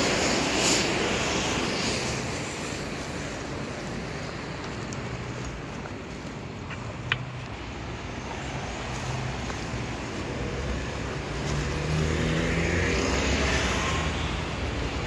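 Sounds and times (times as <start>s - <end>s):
bus engine drone: 0.0s - 15.0s
road traffic noise: 0.0s - 15.0s.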